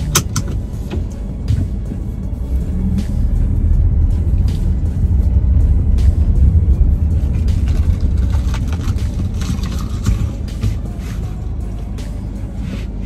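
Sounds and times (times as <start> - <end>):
car engine rumble: 0.0 - 13.0
music playing: 0.0 - 13.0
road noise: 0.0 - 13.0.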